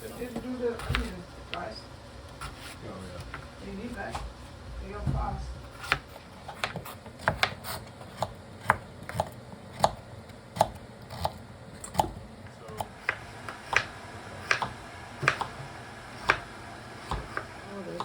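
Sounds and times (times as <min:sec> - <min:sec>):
knife chopping on cutting board: 0:00.3 - 0:01.2, 0:02.3 - 0:03.4, 0:05.0 - 0:18.0.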